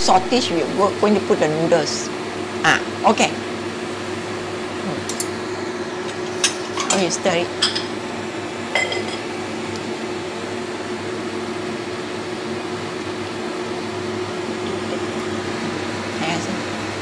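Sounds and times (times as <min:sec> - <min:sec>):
electric fan motor hum: 0:00.0 - 0:17.0.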